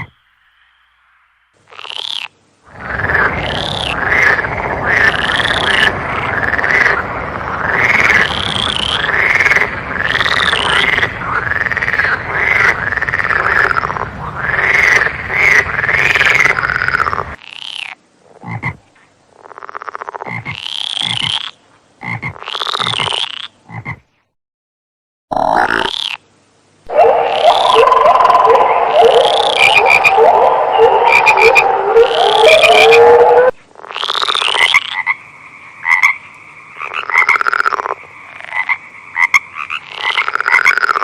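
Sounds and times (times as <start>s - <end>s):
frogs croaking: 0.0s - 24.1s, 25.3s - 26.3s, 26.9s - 41.0s.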